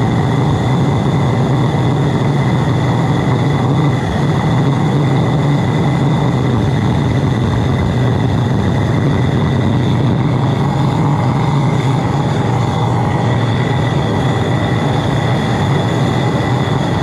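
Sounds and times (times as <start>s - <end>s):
burner roaring: 0.0s - 17.0s.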